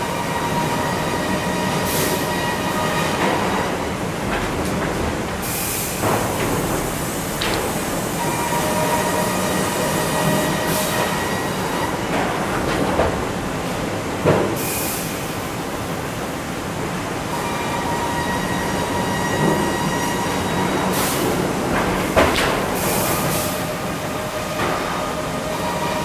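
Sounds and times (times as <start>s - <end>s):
conveyor machine whine: 0.0s - 26.0s.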